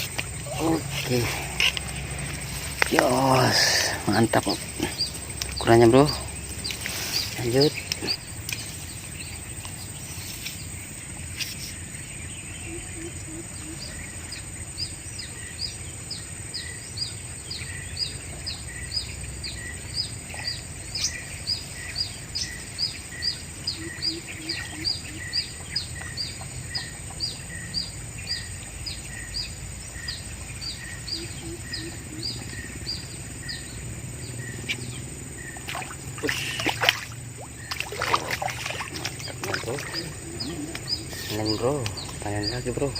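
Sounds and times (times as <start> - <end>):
bird chirping: 0.0 - 42.9
high-pitched outdoor whine: 0.0 - 42.9.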